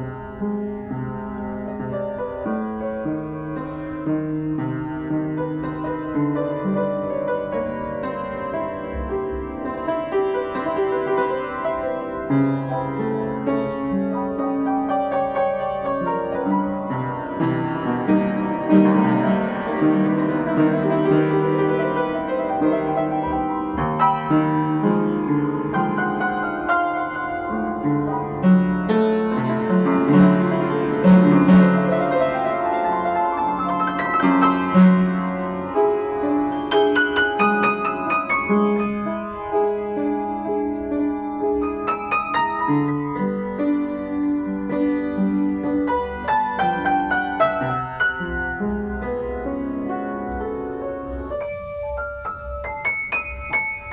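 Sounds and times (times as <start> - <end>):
upright piano playing chords and melody: 0.0 - 53.9.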